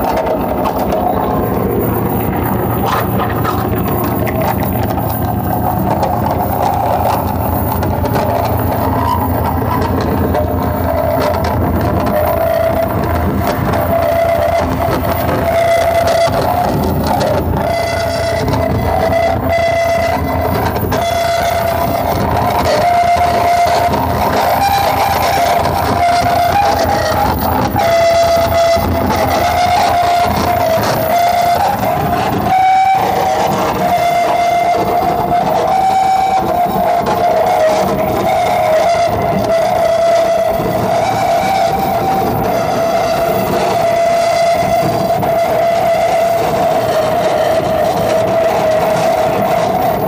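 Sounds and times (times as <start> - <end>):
dense electronic noise: 0.0 - 50.0
distorted noise music: 0.0 - 50.0
fast even throb: 0.0 - 50.0
held horn-like tone: 0.0 - 50.0.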